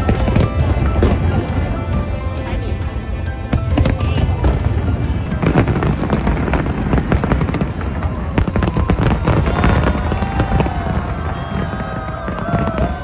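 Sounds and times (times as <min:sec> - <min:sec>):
music playing: 0:00.0 - 0:11.7
fireworks bangs and crackles: 0:00.0 - 0:13.0.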